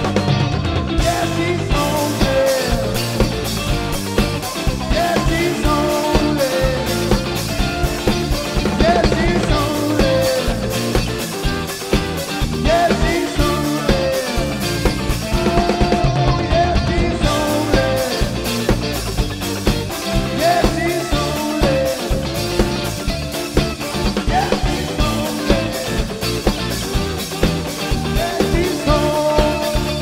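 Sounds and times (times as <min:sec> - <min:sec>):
rock band playing: 0:00.0 - 0:30.0
person singing lead vocal: 0:00.9 - 0:19.1, 0:19.9 - 0:23.1, 0:23.9 - 0:27.0, 0:27.7 - 0:30.0.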